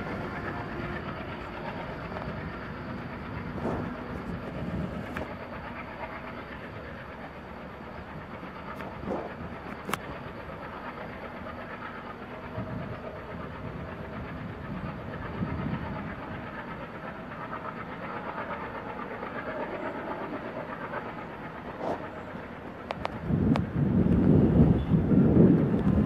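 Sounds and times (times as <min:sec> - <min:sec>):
distant train wheels rumbling: 0:00.0 - 0:26.0.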